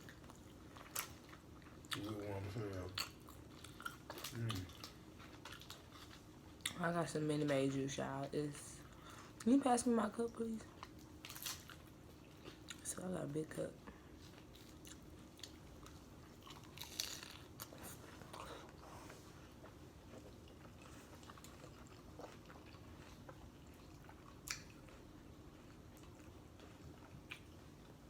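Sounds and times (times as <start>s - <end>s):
chewing tortilla chips: 0.0s - 7.5s, 10.6s - 13.0s, 13.9s - 28.0s.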